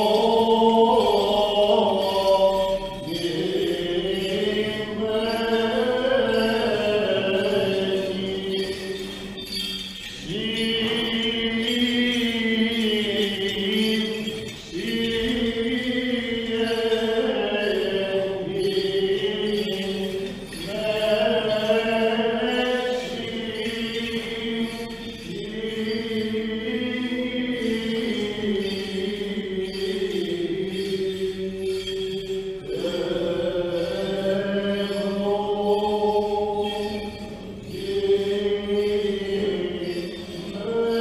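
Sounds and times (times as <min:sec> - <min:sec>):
person chanting: 0:00.0 - 0:41.0.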